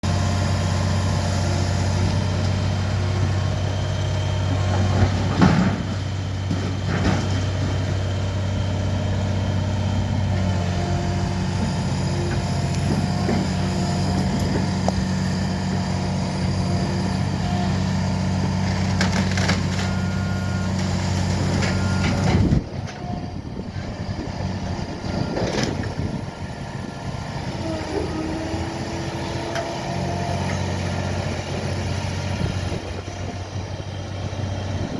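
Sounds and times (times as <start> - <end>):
heavy diesel machinery running: 0.0 - 34.9.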